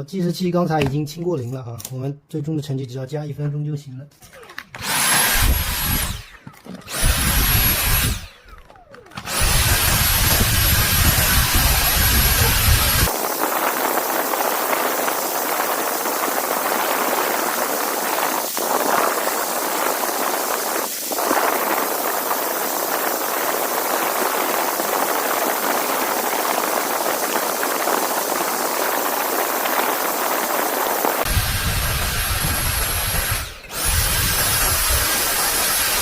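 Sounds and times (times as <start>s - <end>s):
stick vacuum running: 4.2s - 36.0s.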